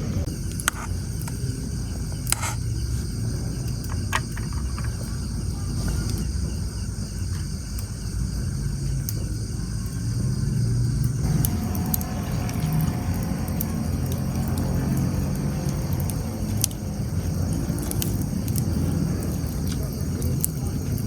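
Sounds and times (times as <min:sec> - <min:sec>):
crickets chirring: 0:00.0 - 0:21.0
low rumble: 0:00.0 - 0:21.0.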